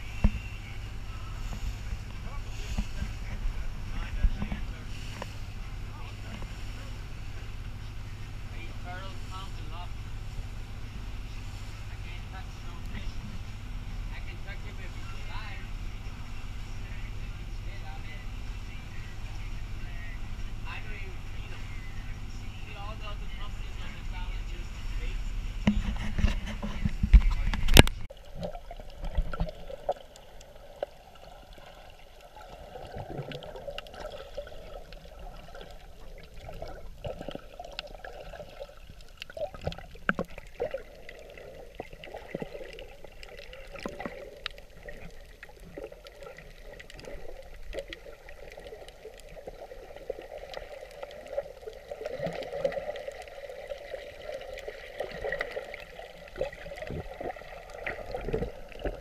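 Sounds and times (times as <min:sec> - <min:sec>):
muffled underwater water wash: 0:00.0 - 0:59.0.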